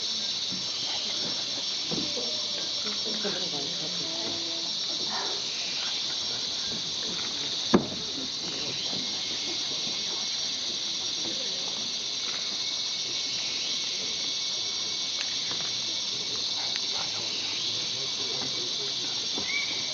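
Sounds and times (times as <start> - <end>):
insects droning: 0.0 - 19.9.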